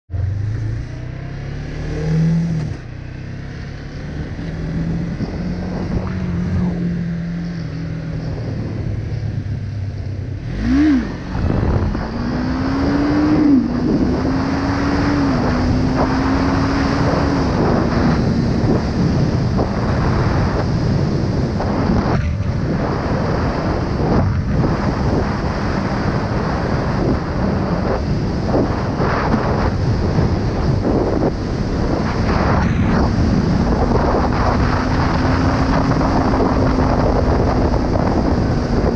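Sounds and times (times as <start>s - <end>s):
motorcycle engine revving: 0.1s - 38.9s
wind noise: 0.1s - 38.9s.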